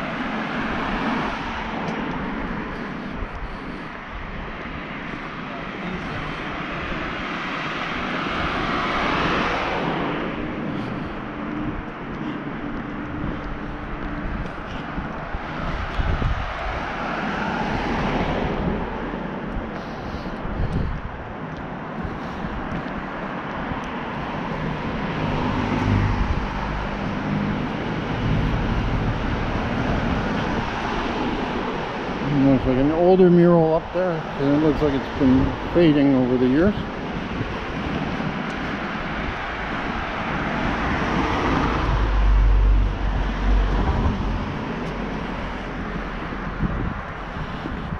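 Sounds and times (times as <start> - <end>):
vehicle passing: 0.0 - 47.9.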